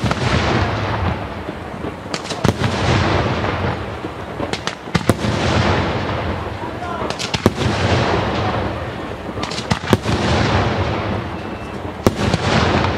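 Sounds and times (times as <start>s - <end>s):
rumble of firework bursts: 0.0s - 12.9s
sharp firework cracks: 0.0s - 12.9s.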